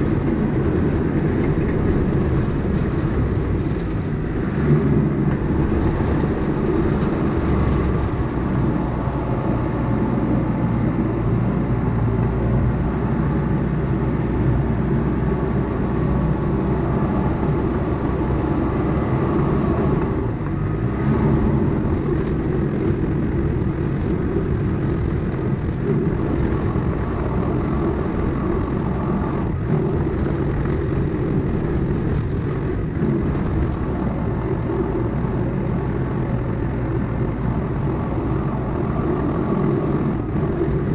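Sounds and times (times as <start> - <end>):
diesel engine droning under load: 0.0 - 40.9.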